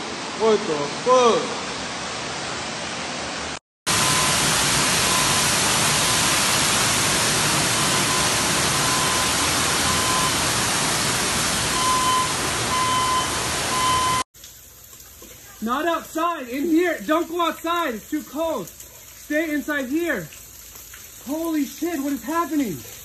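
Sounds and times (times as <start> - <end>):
water gushing from pipe: 3.9 - 23.0.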